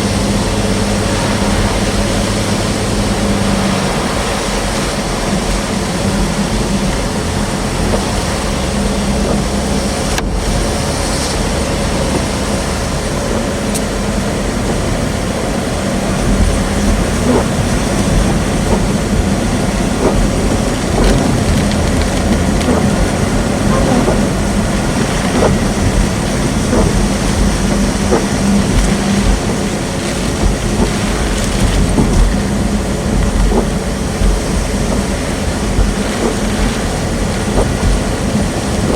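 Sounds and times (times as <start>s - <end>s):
heavy rain on a vehicle: 0.0s - 38.9s
rushing wind: 0.0s - 38.9s.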